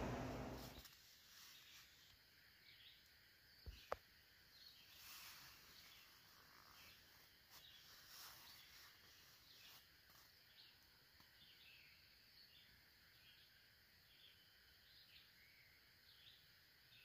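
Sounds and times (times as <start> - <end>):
faint bird chirps: 1.3 - 17.0.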